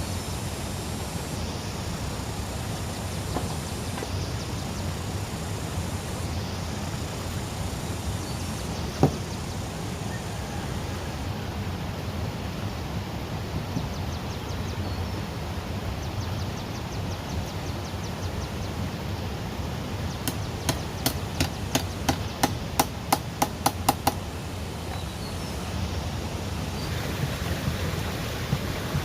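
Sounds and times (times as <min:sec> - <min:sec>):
rushing outdoor background: 0:00.0 - 0:29.0.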